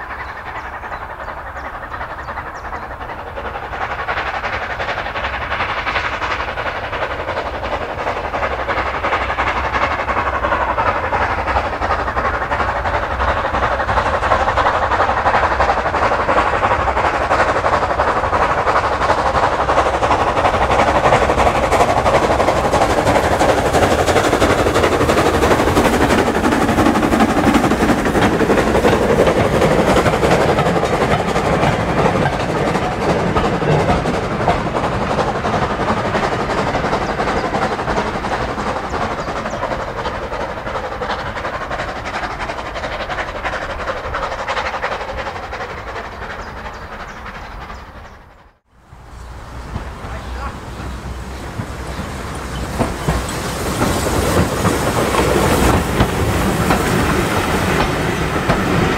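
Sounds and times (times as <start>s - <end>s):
steam locomotive exhaust beats: 0.0s - 58.9s
wheels clattering on track: 0.0s - 58.9s.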